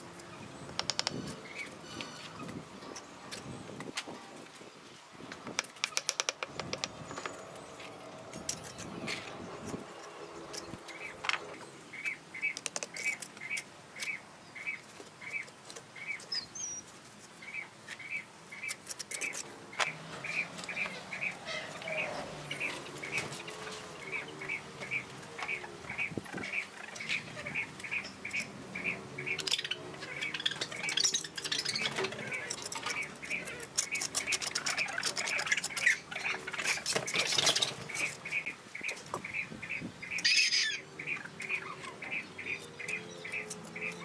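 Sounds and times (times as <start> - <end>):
small bird chirping: 8.4 - 44.0.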